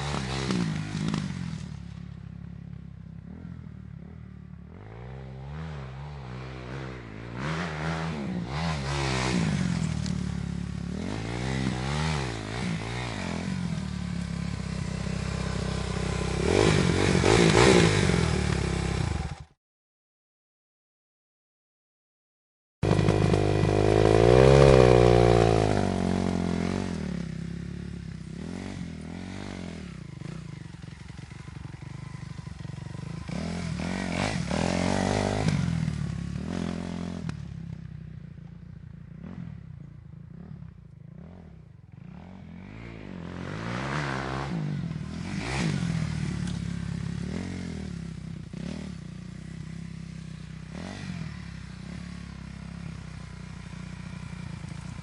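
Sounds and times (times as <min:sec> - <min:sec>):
dirt bike engine revving: 0:00.0 - 0:01.8, 0:03.2 - 0:19.6, 0:22.8 - 0:37.5, 0:41.2 - 0:55.0.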